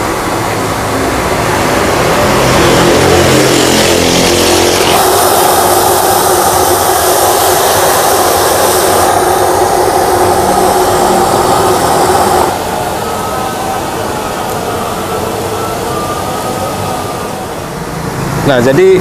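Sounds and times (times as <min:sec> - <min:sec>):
loud roaring noise: 0:00.0 - 0:19.0.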